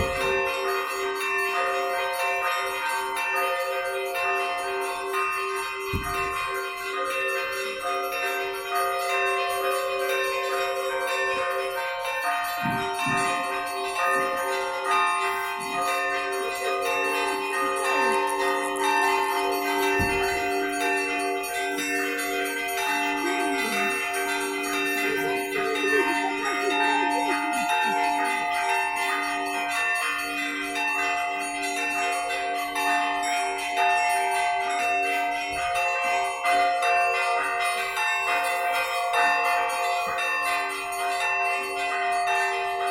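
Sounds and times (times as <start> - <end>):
church bells ringing a peal: 0.0 - 42.9.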